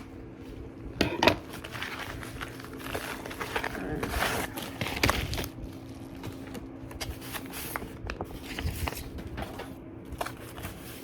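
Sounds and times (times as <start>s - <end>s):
electric fan humming: 0.0s - 11.0s
plastic wrap rustling: 0.0s - 11.0s.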